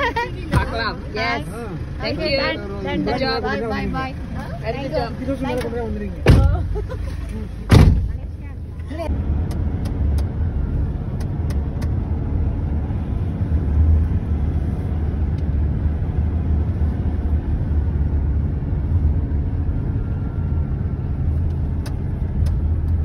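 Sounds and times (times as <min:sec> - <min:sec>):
engine and road noise: 0:00.0 - 0:23.0.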